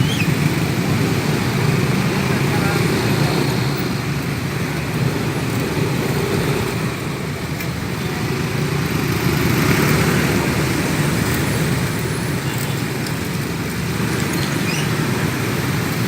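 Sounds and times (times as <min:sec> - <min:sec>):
motorbike and car engines: 0:00.0 - 0:16.0
rush of air and tyres: 0:00.0 - 0:16.0.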